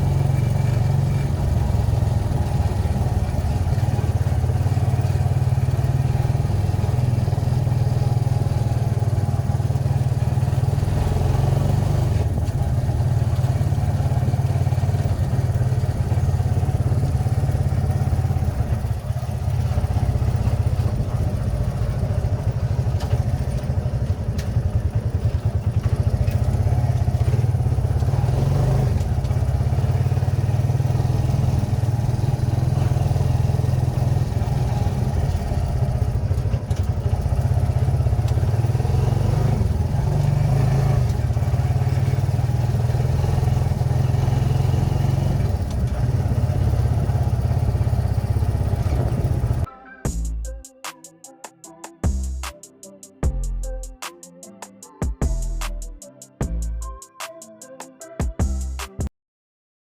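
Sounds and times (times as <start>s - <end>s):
motorcycle engine running: 0.0s - 50.5s.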